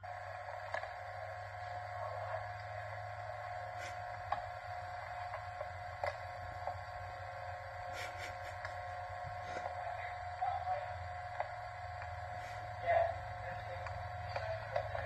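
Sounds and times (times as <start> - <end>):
electrical hum with high tone: 0.0 - 15.0
tape hiss: 0.0 - 15.0.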